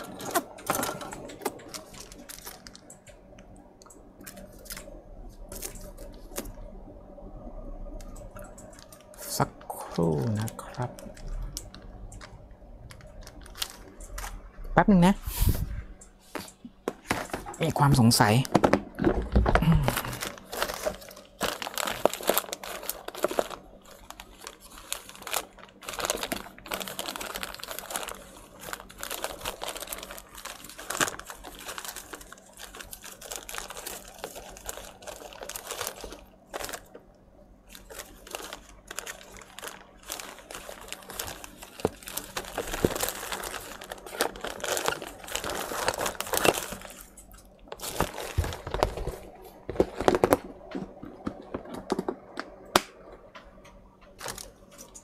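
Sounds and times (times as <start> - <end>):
crinkling and tapping of small parts: 0.0 - 6.6, 7.9 - 14.4, 16.0 - 55.0
faint steady hum: 0.0 - 55.0.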